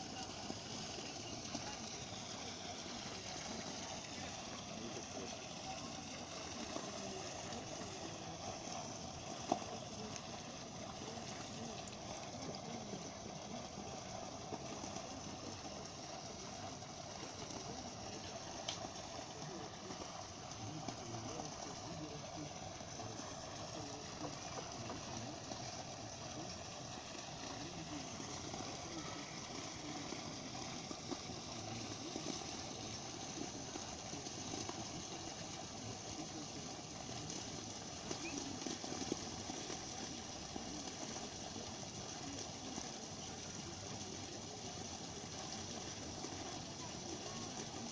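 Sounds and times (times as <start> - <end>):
water splashing down fountain: 0.0 - 47.9.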